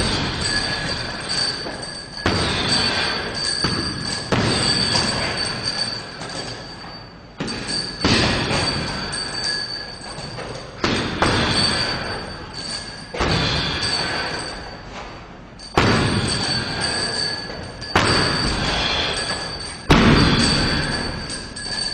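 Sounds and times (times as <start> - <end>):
punches thudding on heavy bag: 0.0 - 6.5, 7.4 - 9.4, 10.1 - 14.5, 15.7 - 21.9.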